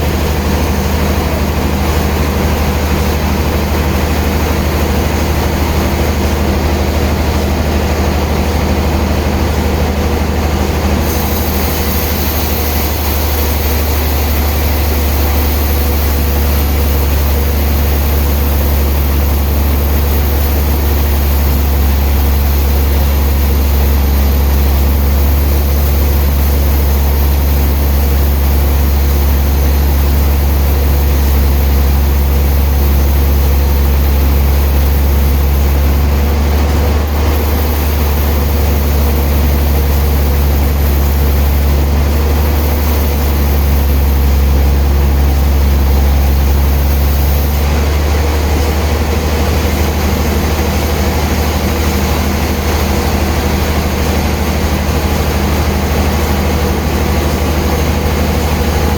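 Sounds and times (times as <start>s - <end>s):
sawmill machinery low drone: 0.0s - 58.9s.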